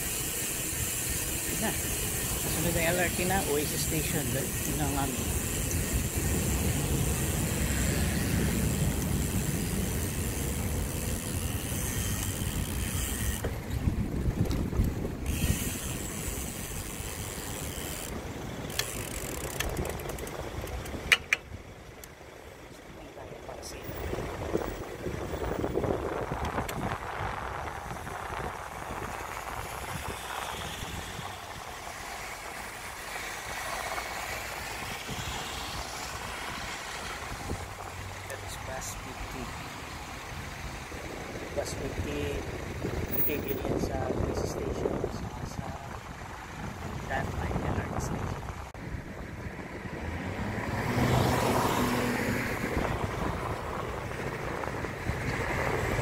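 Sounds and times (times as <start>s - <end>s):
cars driving by: 0.0s - 56.0s
road traffic rumble: 0.0s - 56.0s.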